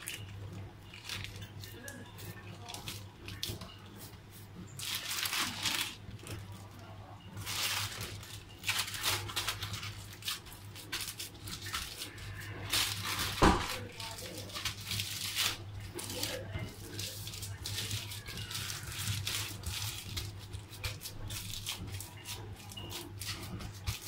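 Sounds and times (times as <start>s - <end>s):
plastic sheet crinkling: 0.0s - 24.0s.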